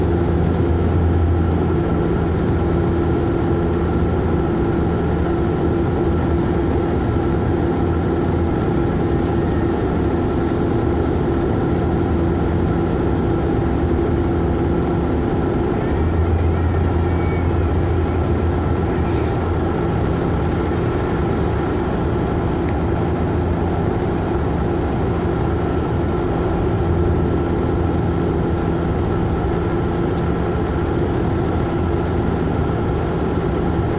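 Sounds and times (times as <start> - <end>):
low propeller hum: 0.0 - 33.9
turboprop engines droning: 0.0 - 33.9.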